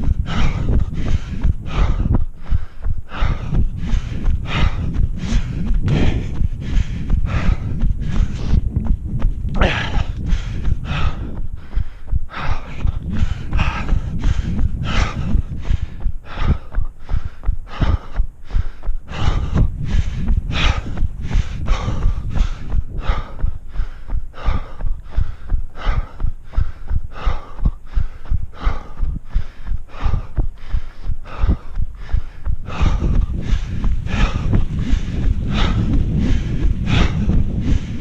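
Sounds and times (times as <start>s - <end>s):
footfalls: 0.0s - 38.0s
low rumble: 0.0s - 38.0s
runner breathing heavily: 0.0s - 38.0s.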